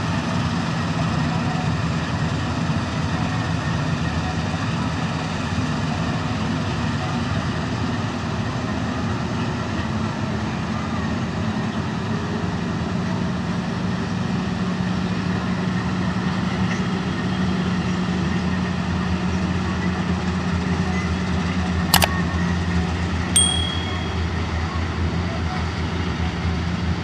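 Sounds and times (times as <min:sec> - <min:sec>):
combine harvester engine drone: 0:00.0 - 0:23.3.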